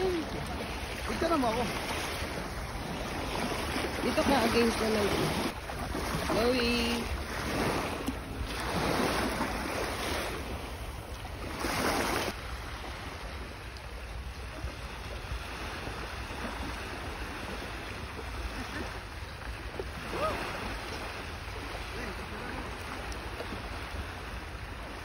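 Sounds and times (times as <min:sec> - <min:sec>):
small waves lapping at shore: 0:00.0 - 0:25.0.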